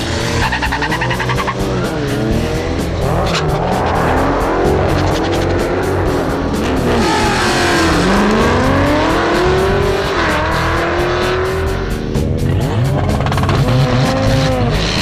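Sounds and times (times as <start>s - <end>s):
background music: 0.0s - 15.0s
muscle car engine accelerating: 0.0s - 15.0s.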